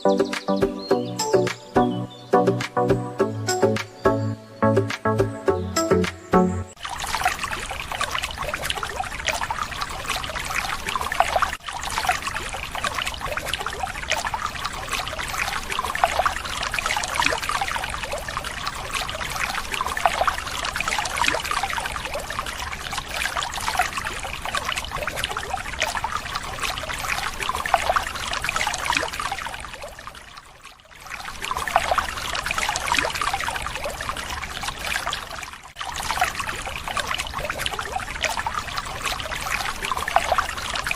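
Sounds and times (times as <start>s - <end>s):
water pouring and trickling: 6.0s - 40.9s.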